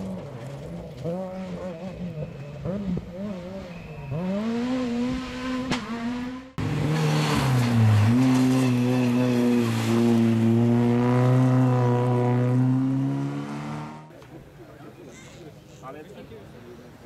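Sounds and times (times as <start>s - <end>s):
rally car engine at high revs: 0.0s - 14.1s.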